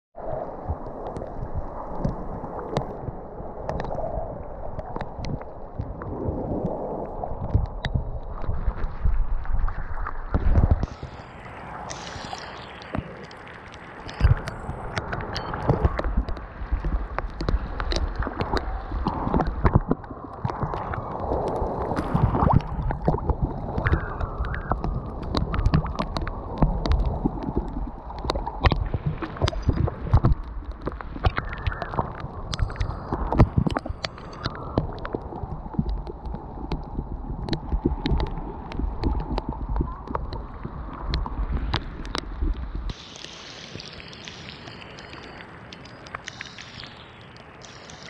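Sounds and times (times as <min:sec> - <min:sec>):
water gurgling and dripping: 0:00.2 - 0:48.0.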